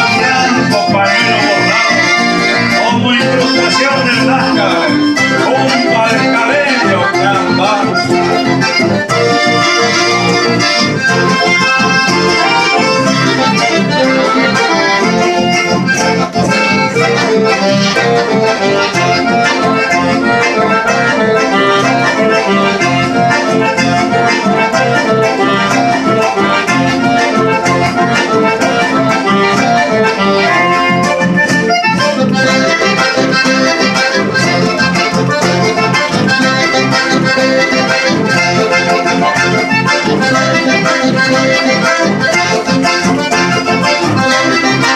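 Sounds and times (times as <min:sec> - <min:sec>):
accordion playing a tune: 0:00.0 - 0:44.9.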